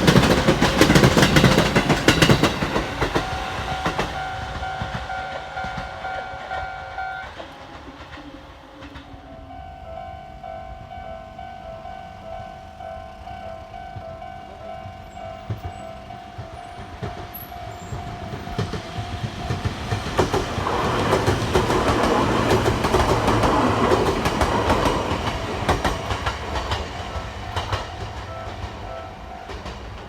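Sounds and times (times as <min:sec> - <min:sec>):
level crossing warning bell: 0:00.0 - 0:07.4, 0:09.2 - 0:30.0
train wheels clacking: 0:00.0 - 0:09.7, 0:13.3 - 0:30.0.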